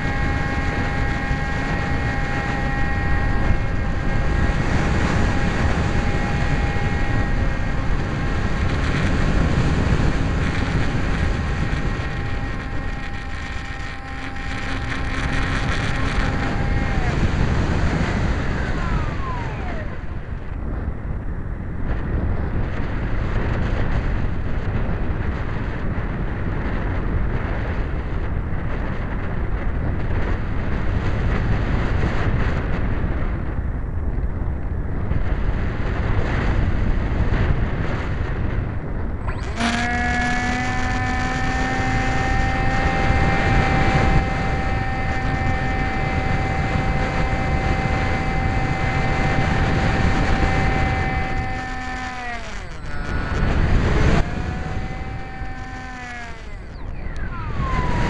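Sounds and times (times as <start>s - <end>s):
electric motor whine: 0.0s - 32.9s, 35.2s - 58.0s
wind rushing over camera: 0.0s - 58.0s.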